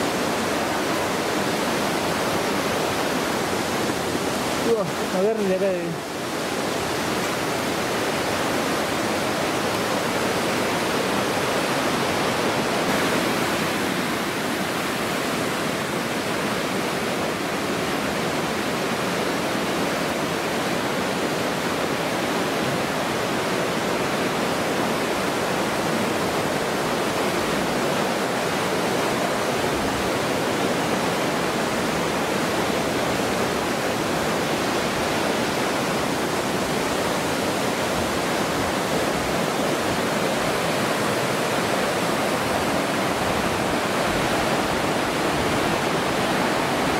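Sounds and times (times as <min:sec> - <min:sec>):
stream rushing over rocks: 0:00.0 - 0:46.9.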